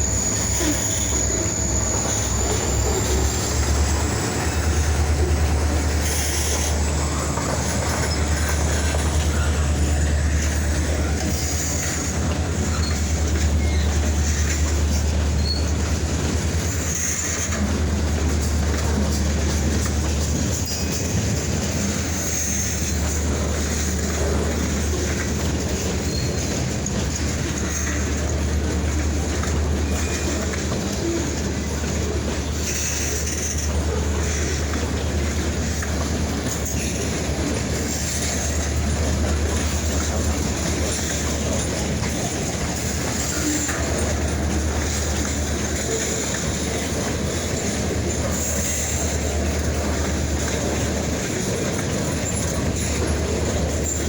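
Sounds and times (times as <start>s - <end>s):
train low rumble: 0.0s - 54.0s
train wheels clacking: 0.0s - 54.0s
wheel squeals: 0.0s - 54.0s.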